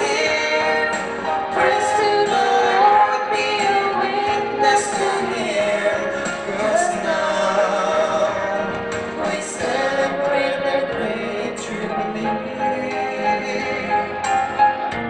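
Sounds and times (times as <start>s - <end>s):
instrumental accompaniment: 0.0s - 15.0s
voices singing long notes: 0.0s - 15.0s.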